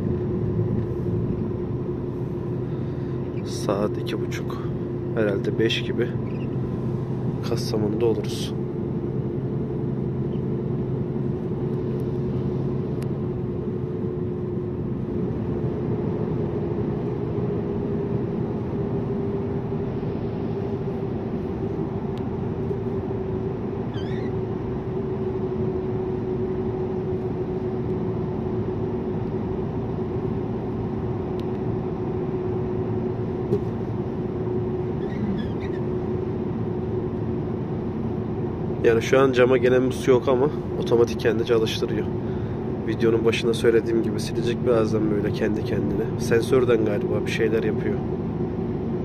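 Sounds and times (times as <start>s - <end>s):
constant hum: 0.0s - 49.0s
truck engine and road noise: 0.0s - 49.0s.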